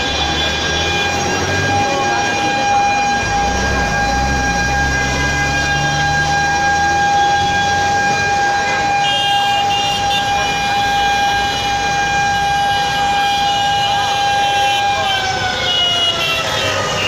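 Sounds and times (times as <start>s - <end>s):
emergency siren: 0.0s - 17.0s
higher siren tone: 0.0s - 17.0s.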